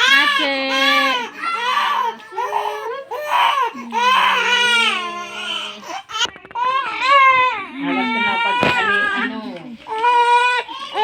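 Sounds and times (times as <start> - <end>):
baby crying: 0.0 - 11.0.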